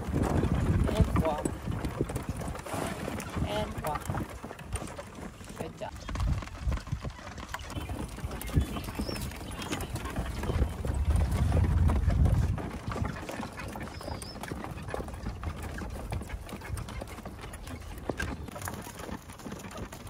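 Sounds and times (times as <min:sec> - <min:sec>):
cart rattling: 0:00.0 - 0:20.0
hooves clip-clopping on dirt: 0:00.0 - 0:20.0.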